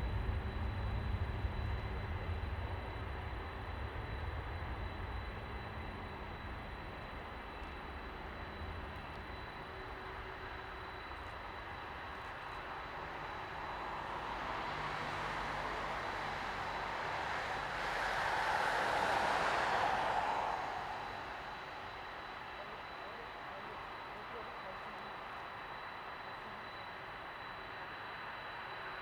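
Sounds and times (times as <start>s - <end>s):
distant jet roar: 0.0s - 23.5s.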